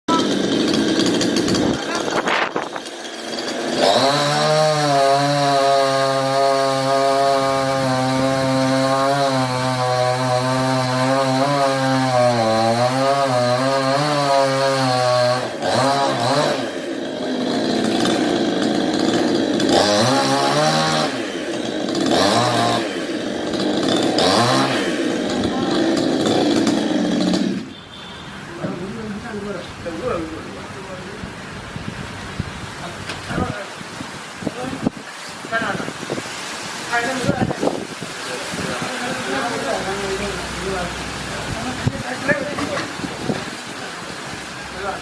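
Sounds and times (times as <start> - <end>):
chainsaw cutting tree: 0.1 - 30.2, 33.1 - 45.0.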